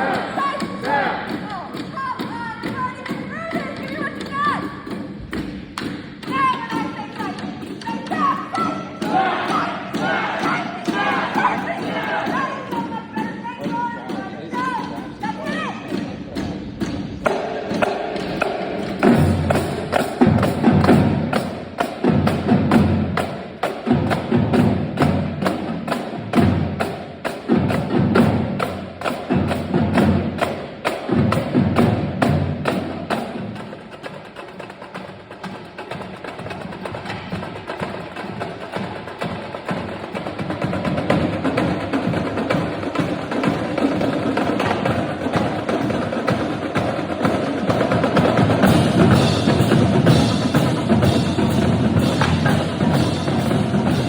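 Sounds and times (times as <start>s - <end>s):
snare drum strokes: 0.0s - 54.0s.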